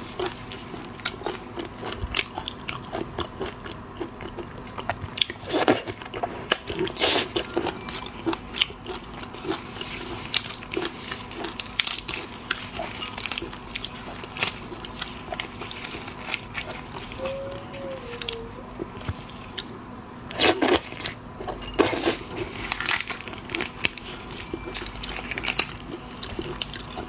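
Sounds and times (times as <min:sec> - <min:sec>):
crunchy chewing: 0:00.0 - 0:27.0.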